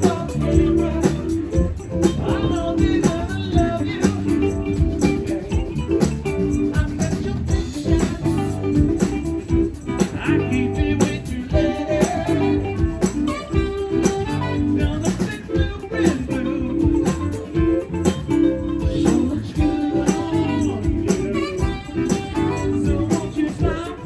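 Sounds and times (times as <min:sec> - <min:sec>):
band playing: 0:00.0 - 0:24.0
steady drum beat: 0:00.0 - 0:24.0.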